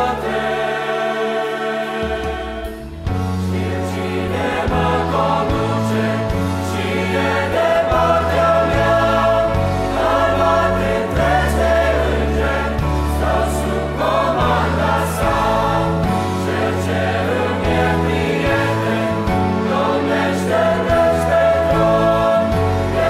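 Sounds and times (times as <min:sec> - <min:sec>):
choir singing a hymn in harmony: 0:00.0 - 0:23.0
low instrumental accompaniment: 0:00.0 - 0:23.0.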